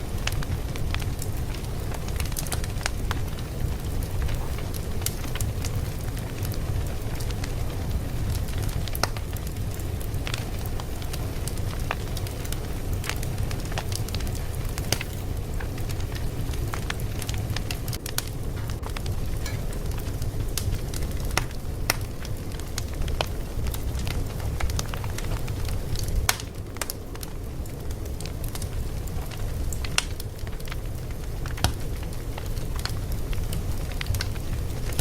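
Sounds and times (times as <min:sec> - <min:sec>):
fire crackling and popping: 0:00.0 - 0:35.0
low rumble of fire: 0:00.0 - 0:35.0.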